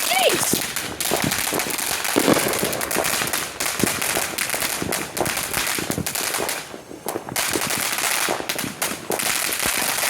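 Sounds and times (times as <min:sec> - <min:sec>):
fireworks crackling pops: 0:00.0 - 0:10.0.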